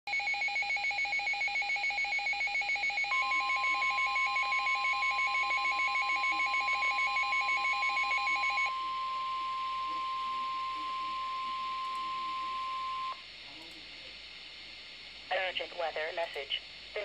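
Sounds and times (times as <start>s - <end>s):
steady high warning tone: 0.1s - 13.8s.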